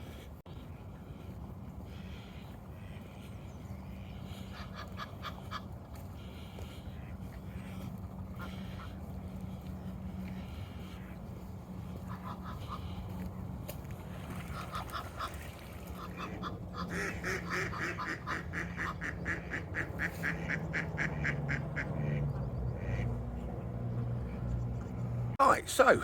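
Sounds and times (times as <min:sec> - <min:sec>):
steady low hum: 0:00.0 - 0:25.4
ducks quacking: 0:00.0 - 0:26.0.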